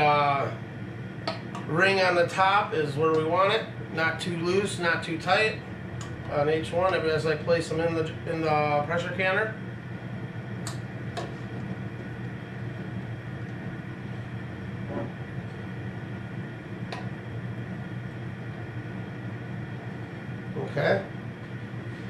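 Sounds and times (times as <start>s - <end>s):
burner flame rumbling: 0.0s - 22.0s.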